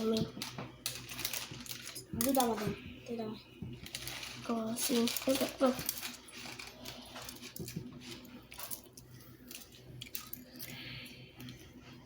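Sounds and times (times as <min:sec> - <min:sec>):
kitchen items clicking and rattling: 0:00.0 - 0:10.8
steady low hum: 0:00.0 - 0:12.0.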